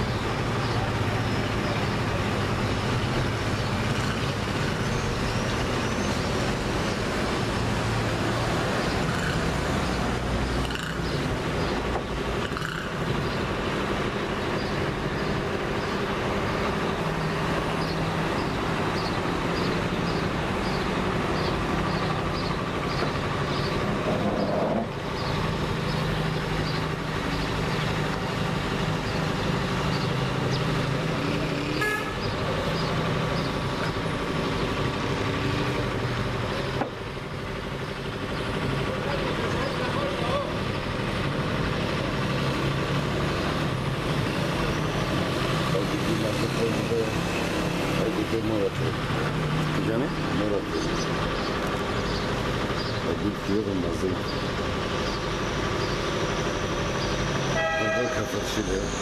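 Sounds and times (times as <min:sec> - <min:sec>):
traffic engines humming: 0:00.0 - 0:59.0.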